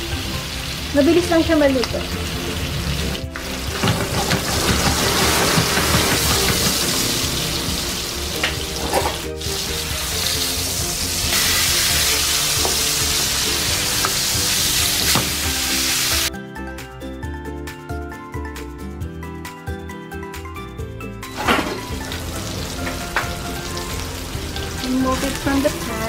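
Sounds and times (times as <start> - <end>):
fish sizzling in a frying pan: 0.0 - 16.3, 21.3 - 26.0
background music: 0.0 - 26.0.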